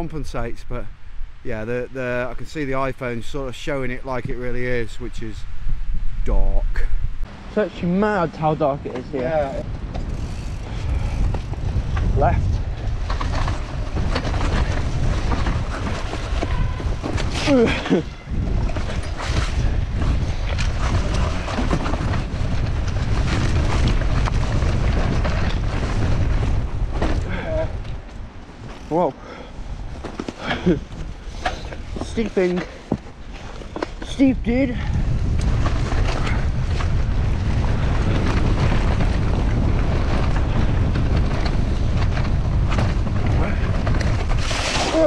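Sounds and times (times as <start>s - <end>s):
wind buffeting microphone: 0.0s - 45.0s
bike tyres on dirt: 2.4s - 45.0s
bike clicks and rattles: 8.9s - 45.0s.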